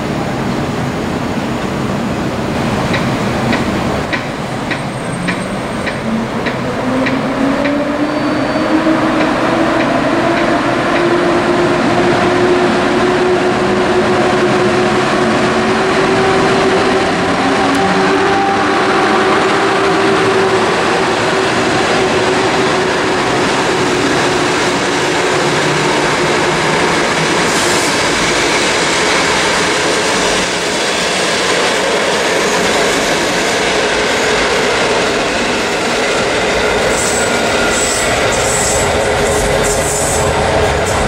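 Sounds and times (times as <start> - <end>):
train wheels running on rails: 0.1 - 41.0.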